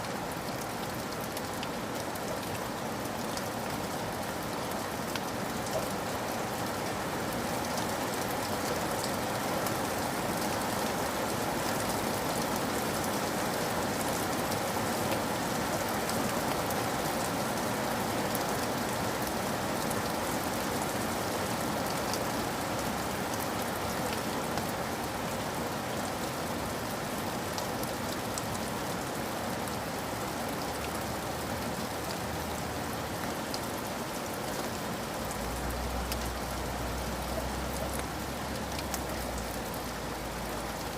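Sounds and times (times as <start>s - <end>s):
rain drops ticking: 0.0s - 40.9s
steady rain hiss: 0.0s - 40.9s.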